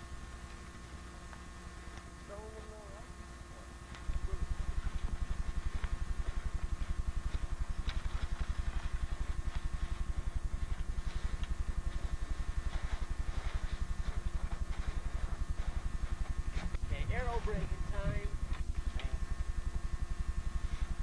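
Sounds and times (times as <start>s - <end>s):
faint high whine: 0.0s - 21.0s
pulsing low motor hum: 0.0s - 21.0s.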